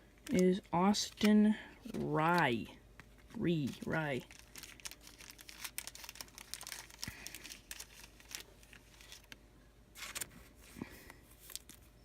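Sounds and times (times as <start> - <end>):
trading cards and packaging rustling: 0.0 - 12.0.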